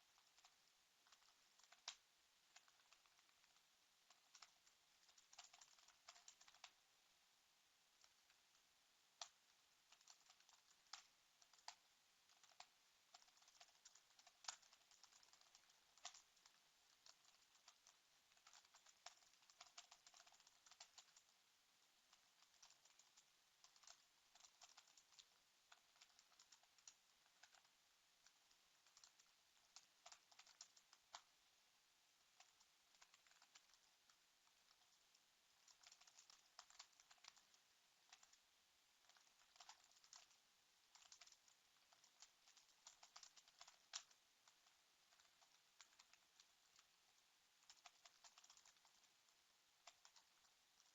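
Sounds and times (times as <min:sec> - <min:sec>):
faint keyboard typing: 0:00.0 - 0:50.9.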